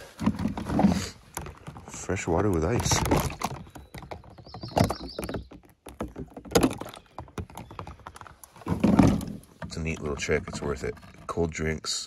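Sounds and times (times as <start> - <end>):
drink containers and ice clunking: 0.0 - 12.0.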